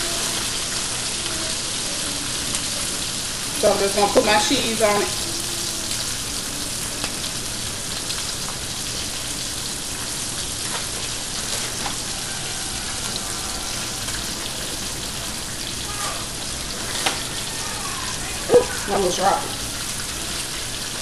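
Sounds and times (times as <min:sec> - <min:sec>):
food sizzling in pans: 0:00.0 - 0:21.0.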